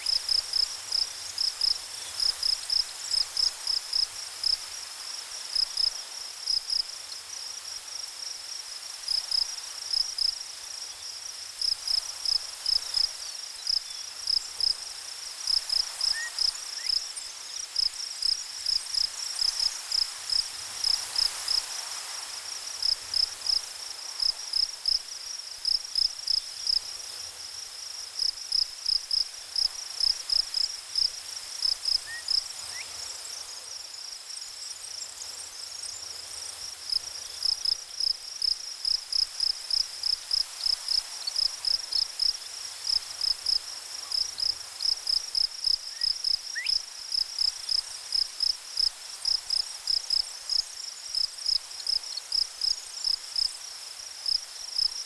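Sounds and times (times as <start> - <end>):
faint steady hiss: 0.0 - 55.0
insect chirping: 0.0 - 55.0.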